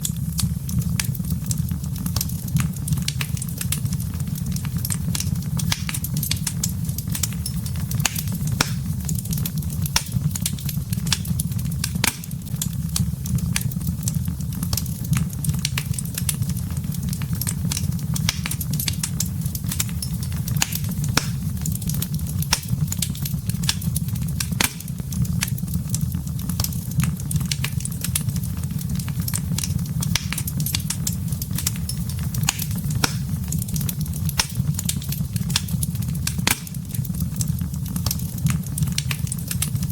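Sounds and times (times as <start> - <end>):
campfire crackles and pops: 0.0 - 39.9
low rumble of flames: 0.0 - 39.9.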